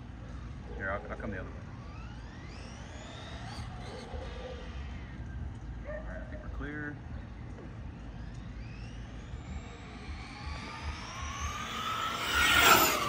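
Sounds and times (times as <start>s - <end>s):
rc truck motor whine passing: 0.0s - 5.9s, 7.0s - 13.0s.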